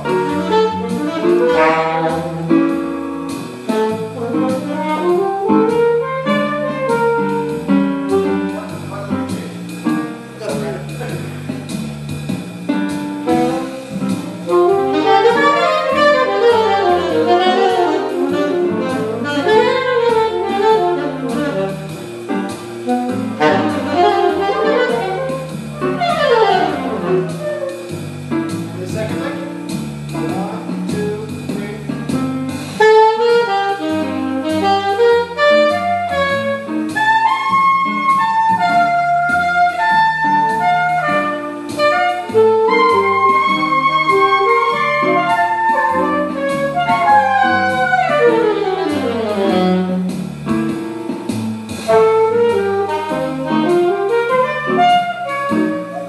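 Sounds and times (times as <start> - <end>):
bass line: 0.0 - 56.0
jazz saxophone: 0.0 - 56.0.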